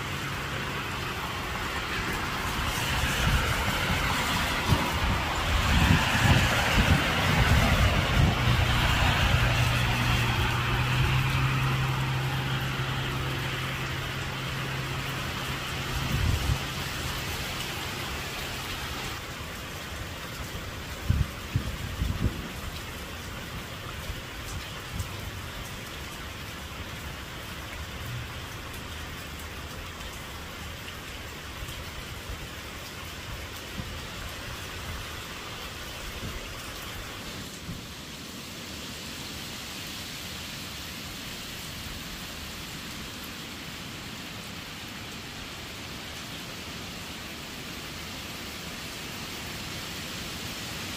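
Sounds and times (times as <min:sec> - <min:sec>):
rain falling on grass and road: 0:00.0 - 0:50.9.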